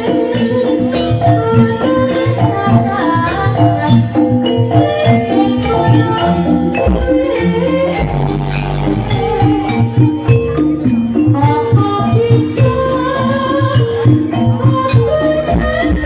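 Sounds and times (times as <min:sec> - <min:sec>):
jingling percussion: 0:00.0 - 0:16.0.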